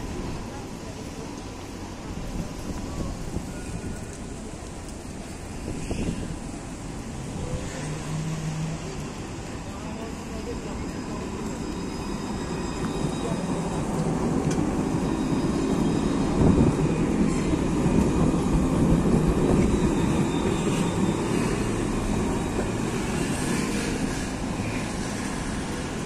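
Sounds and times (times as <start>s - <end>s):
tram wheels rumbling: 0.0s - 26.0s.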